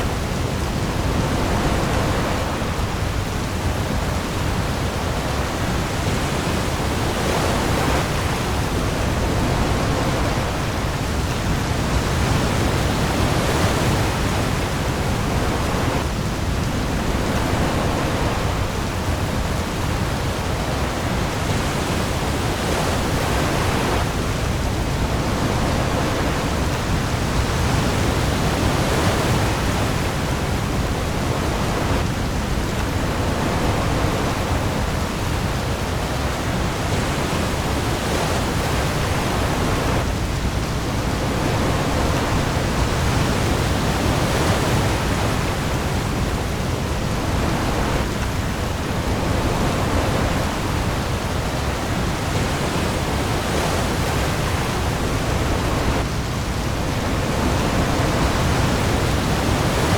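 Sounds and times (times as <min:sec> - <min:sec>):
heavy rain on the sea: 0:00.0 - 0:59.9
waves: 0:00.0 - 0:59.9.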